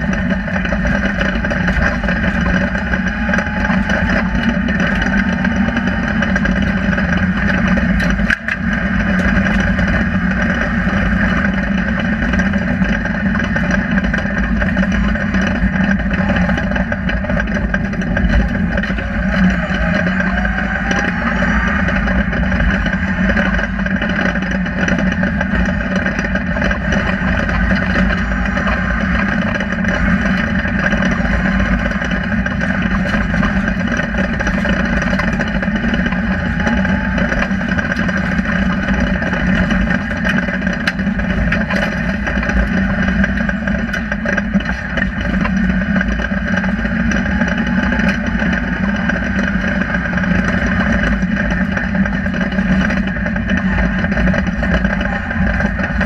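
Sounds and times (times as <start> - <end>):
car engine running hard: 0.0 - 56.0
road and tyre noise: 0.0 - 56.0.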